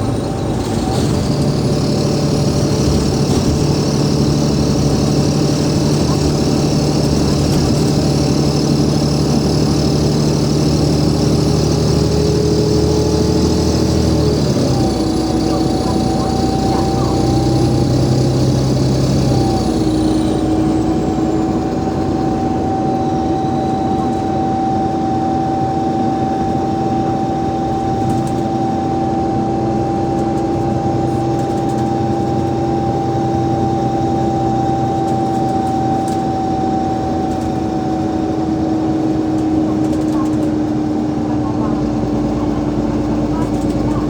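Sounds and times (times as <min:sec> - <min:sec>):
bus engine droning: 0:00.0 - 0:44.0
driveline whine: 0:00.0 - 0:44.0.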